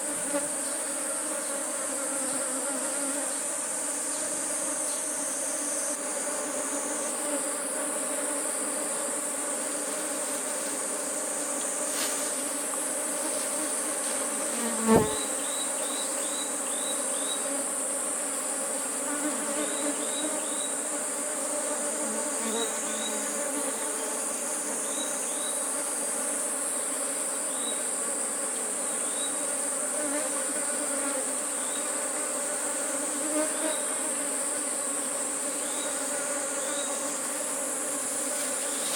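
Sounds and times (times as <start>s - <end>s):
forest insects droning: 0.0s - 38.9s
honeybees buzzing: 0.0s - 38.9s.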